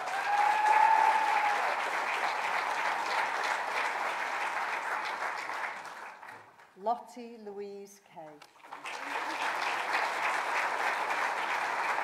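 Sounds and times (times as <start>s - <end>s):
audience applauding: 0.0s - 6.7s, 8.5s - 12.0s.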